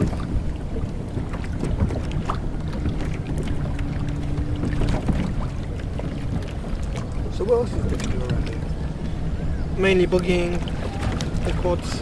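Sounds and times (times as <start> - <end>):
motorboat engine running: 0.0 - 12.0
wind noise: 0.0 - 12.0.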